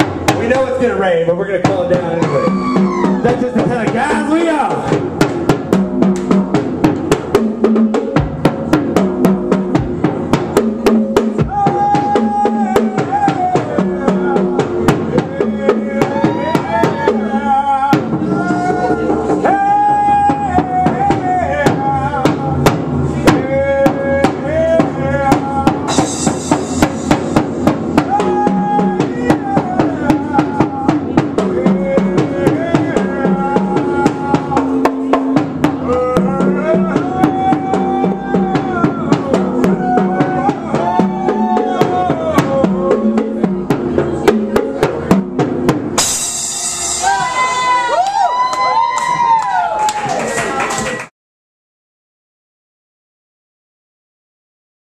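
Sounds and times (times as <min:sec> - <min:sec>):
fast drum and cymbal strokes: 0:00.0 - 0:47.8.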